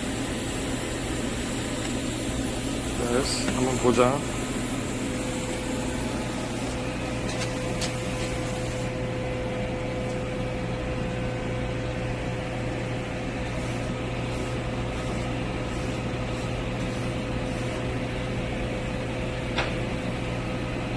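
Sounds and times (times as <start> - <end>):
mechanical fan hum: 0.0 - 20.9.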